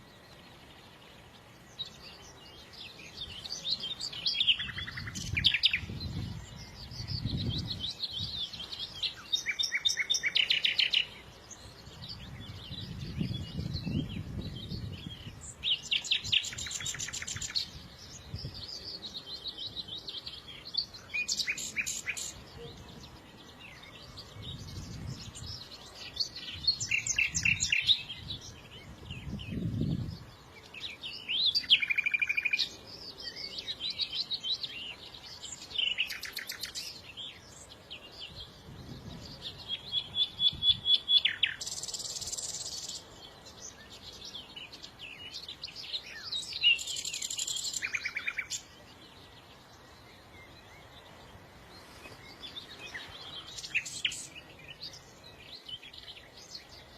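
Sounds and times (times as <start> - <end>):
songbirds chirping and singing: 0.0 - 56.9.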